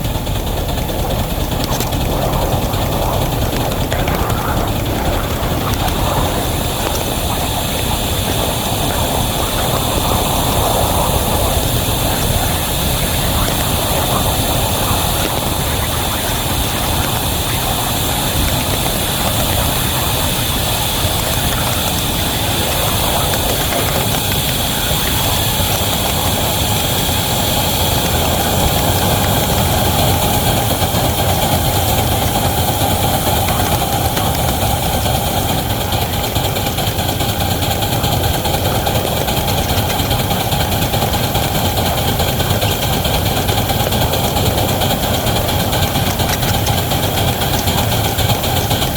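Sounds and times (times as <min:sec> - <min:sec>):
train passing rumble: 0:00.0 - 0:48.9.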